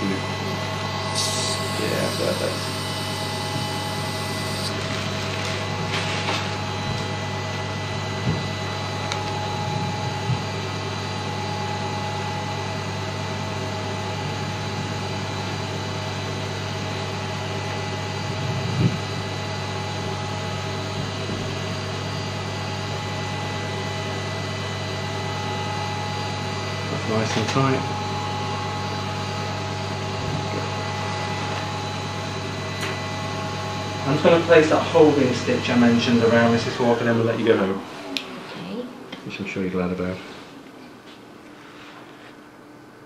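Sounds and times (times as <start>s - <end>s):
suction machine hum and whine: 0.0s - 43.0s.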